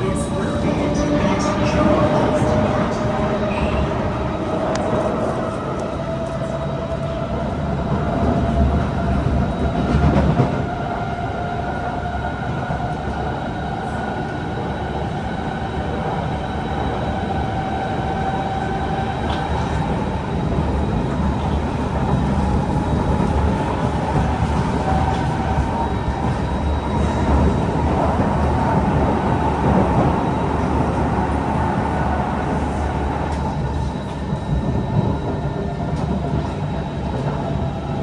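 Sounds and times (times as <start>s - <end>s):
train drive whine: 0.0s - 38.0s
train wheels rumbling on track: 0.0s - 38.0s.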